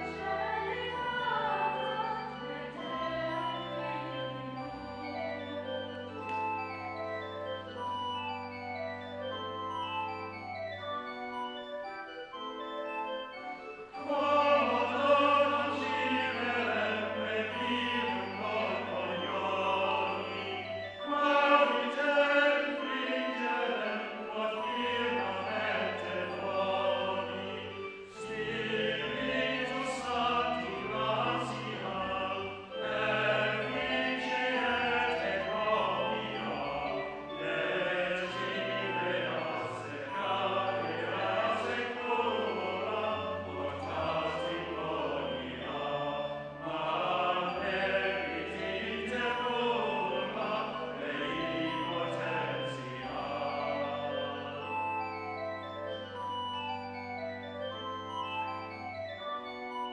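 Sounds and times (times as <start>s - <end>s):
church choir singing: 0.0s - 59.9s
low organ notes: 0.0s - 59.9s.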